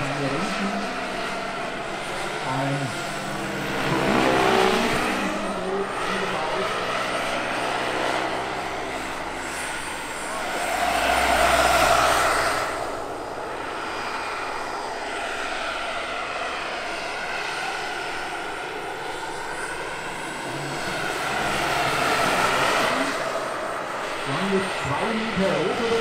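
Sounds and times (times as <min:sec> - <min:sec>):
model helicopter turbine whine: 0:00.0 - 0:26.0.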